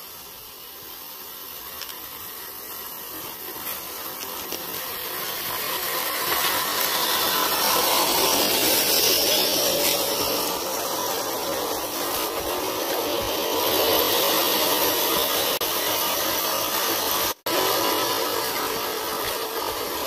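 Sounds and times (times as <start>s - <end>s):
small electric motor whirring: 0.0s - 20.0s.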